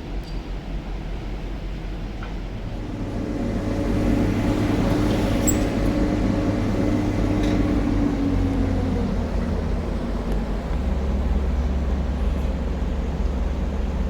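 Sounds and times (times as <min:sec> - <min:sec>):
engine running: 0:02.2 - 0:14.0.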